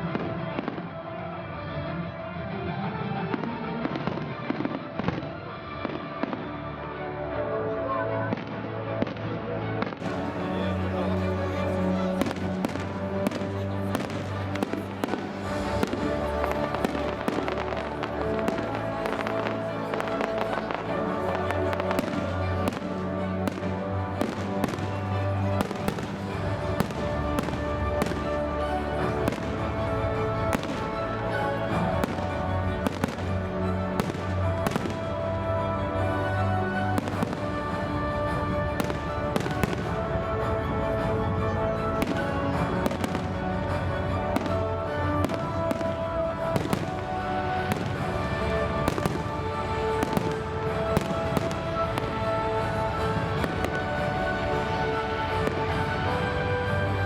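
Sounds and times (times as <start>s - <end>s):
fireworks bangs and crackles: 0.0s - 0.9s, 3.3s - 6.5s, 9.8s - 35.2s, 36.8s - 57.0s
loud music with held tones: 0.0s - 57.0s.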